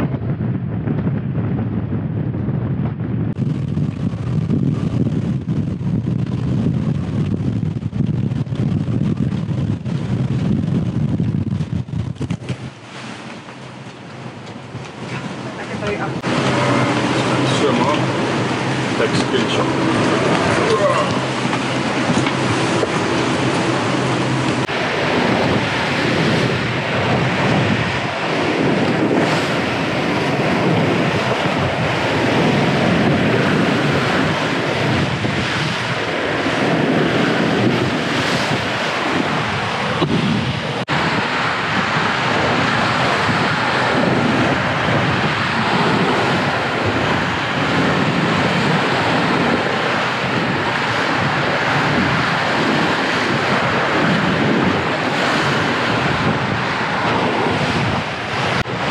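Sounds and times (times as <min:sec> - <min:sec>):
wind buffeting microphone: 0:00.0 - 0:58.9
water rushing past a hull: 0:03.3 - 0:58.9.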